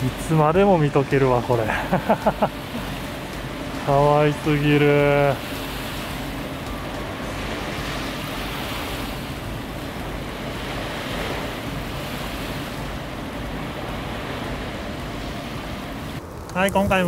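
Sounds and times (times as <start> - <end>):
waves washing on a beach: 0.0 - 17.0.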